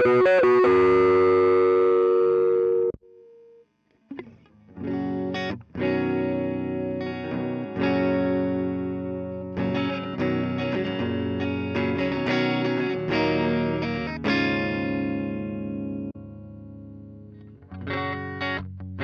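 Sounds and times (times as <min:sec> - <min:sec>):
electric guitar notes and chords: 0:00.0 - 0:03.5, 0:04.1 - 0:19.0.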